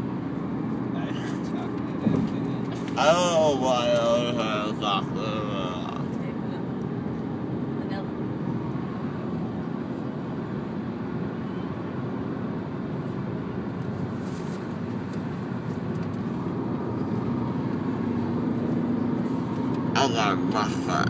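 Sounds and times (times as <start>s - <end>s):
car cabin road rumble: 0.0s - 21.0s.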